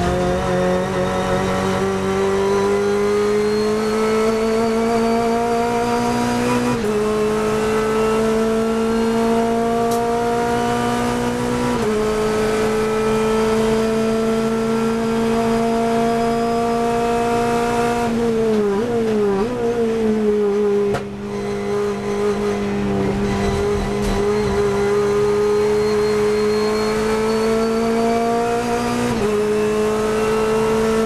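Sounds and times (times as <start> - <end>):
engine revs blipping on downshift: 0.0 - 31.0
race car engine at full throttle: 0.0 - 31.0.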